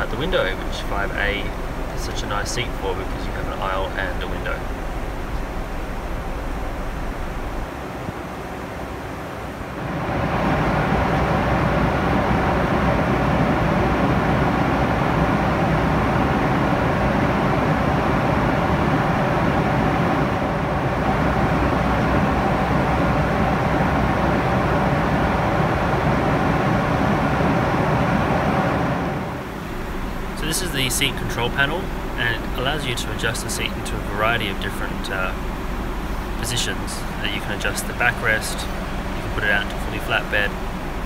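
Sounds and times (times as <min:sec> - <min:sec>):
faint steady hum: 0:00.0 - 0:41.0
jet engines droning: 0:00.0 - 0:41.0
rushing airflow: 0:00.0 - 0:41.0.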